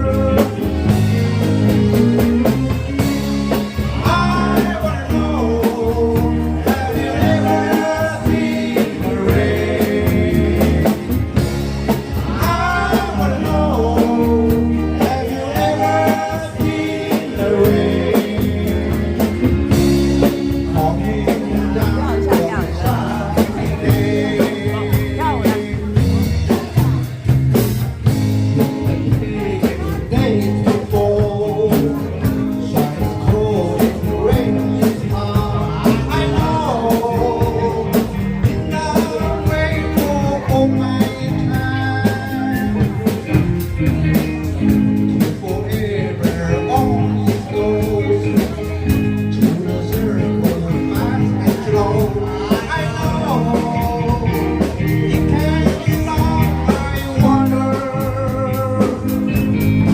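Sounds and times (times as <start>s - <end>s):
person singing: 0.0s - 27.0s, 28.6s - 43.4s, 45.1s - 59.9s
rock band playing: 0.0s - 59.9s.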